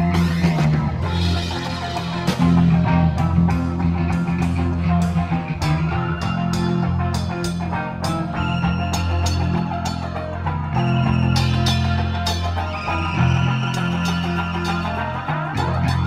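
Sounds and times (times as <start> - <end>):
electric guitar: 0.0 - 16.0
steady drum beat: 0.0 - 16.0
sustained bass notes: 0.0 - 16.0.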